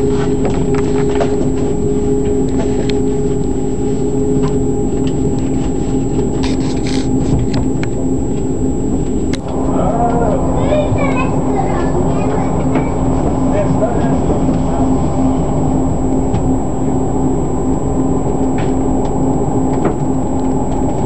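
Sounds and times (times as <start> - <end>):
held hum: 0.0 - 21.0
train running rumble: 0.0 - 21.0.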